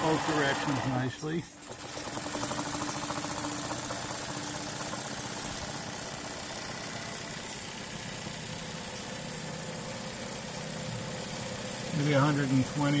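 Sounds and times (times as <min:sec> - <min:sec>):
small generator whirring: 0:00.0 - 0:13.0
steady hum: 0:00.0 - 0:13.0
steam engine running: 0:00.0 - 0:13.0.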